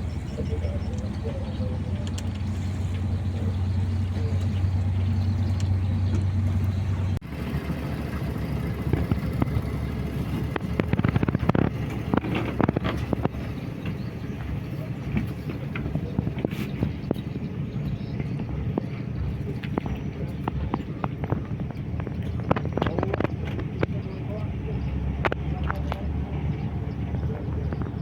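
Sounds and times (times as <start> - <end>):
boat engine droning: 0.0 - 28.0
rough noisy rumble: 0.0 - 28.0.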